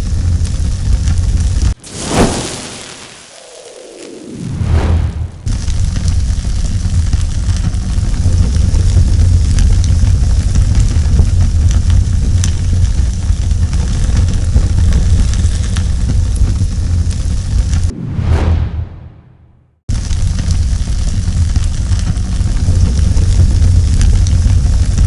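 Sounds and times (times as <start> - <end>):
fire crackling: 0.0 - 17.9, 19.9 - 25.0
fire rumbling: 0.0 - 25.0.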